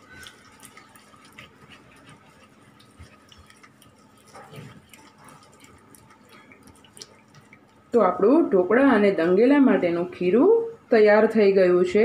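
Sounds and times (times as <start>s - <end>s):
hand stirring thick batter in steel bowl: 0.0s - 10.0s.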